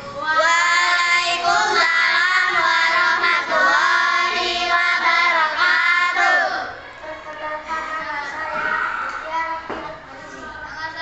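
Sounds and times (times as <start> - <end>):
children singing: 0.2 - 10.8.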